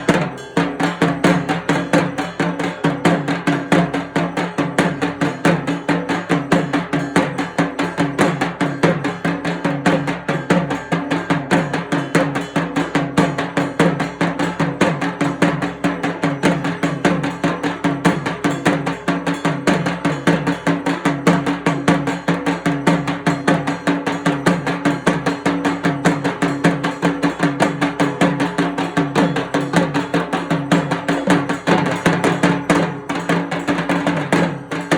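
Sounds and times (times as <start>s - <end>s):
barrel drum beaten with sticks: 0.0s - 34.9s.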